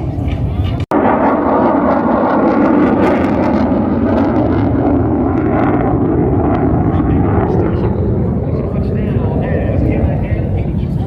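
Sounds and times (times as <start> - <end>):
loud jet noise: 0.0 - 11.0.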